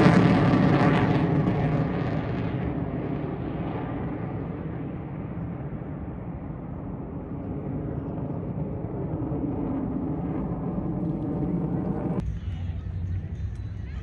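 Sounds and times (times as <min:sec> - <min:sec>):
jet engine deep rumble: 0:00.0 - 0:14.0.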